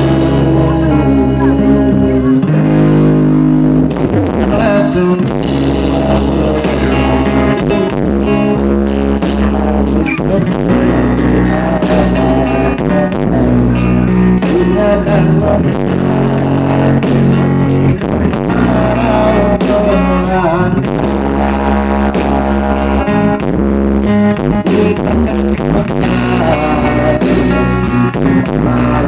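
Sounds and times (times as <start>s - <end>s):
loud pop-rock song over pa: 0.0s - 29.0s.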